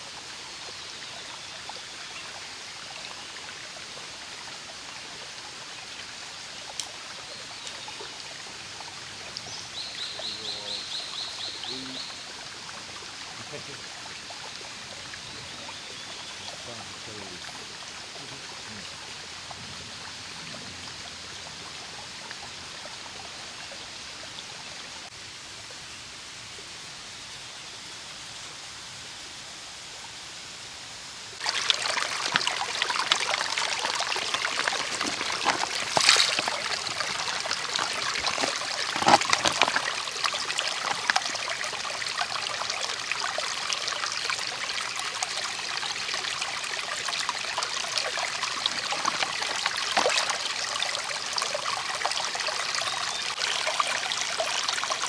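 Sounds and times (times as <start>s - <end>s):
running trickling water: 0.0s - 25.1s, 31.3s - 55.0s.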